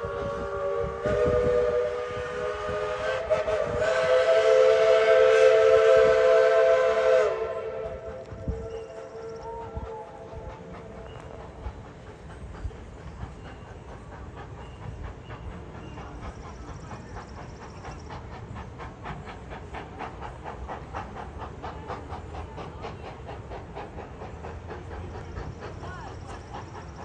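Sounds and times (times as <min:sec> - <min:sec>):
steam locomotive exhaust chuffing: 0:00.0 - 0:27.0.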